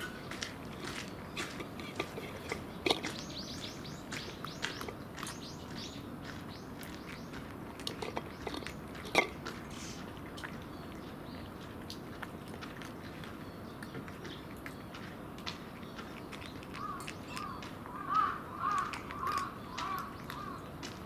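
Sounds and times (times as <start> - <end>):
cats chewing food: 0.0 - 21.0.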